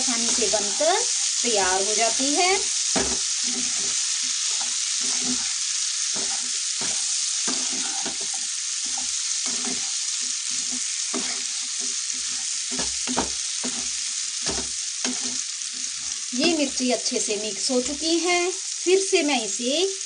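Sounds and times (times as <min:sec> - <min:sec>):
spatula scraping a pan: 0:00.0 - 0:16.8
vegetables sizzling in oil: 0:00.0 - 0:20.0.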